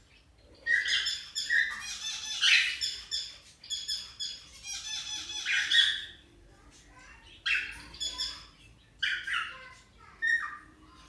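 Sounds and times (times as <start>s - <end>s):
cockatiels squawking and chirping: 0.1s - 11.0s.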